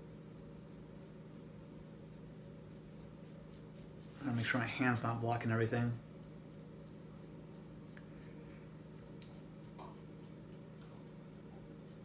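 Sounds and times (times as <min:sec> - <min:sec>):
steady low hum: 0:00.0 - 0:12.0
razor scraping stubble: 0:00.3 - 0:12.0.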